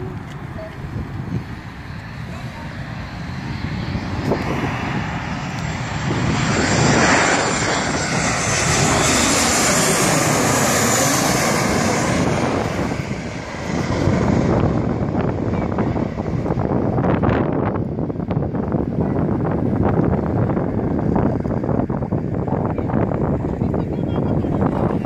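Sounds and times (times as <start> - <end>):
jet airliner passing overhead: 0.0 - 25.0.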